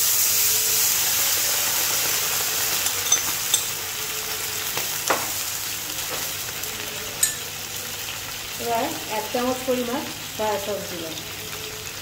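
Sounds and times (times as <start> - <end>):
sauce sizzling in a wok: 0.0 - 12.0.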